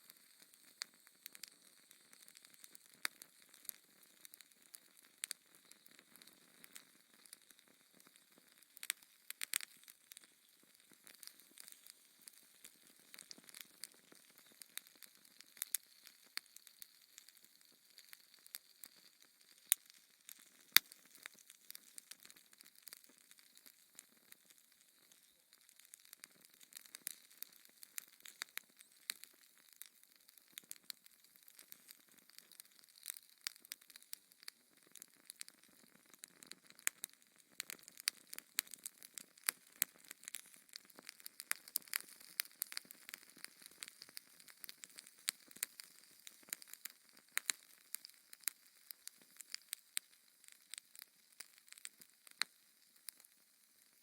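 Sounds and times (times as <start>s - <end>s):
fire crackling with pops: 0.0s - 54.0s.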